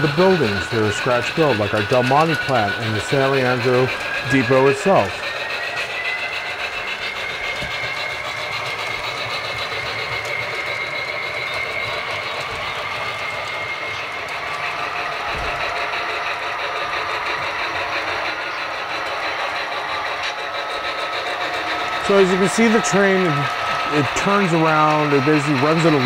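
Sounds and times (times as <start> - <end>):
model train motor whine: 0.0 - 26.0
wheels clicking on rails: 0.0 - 26.0.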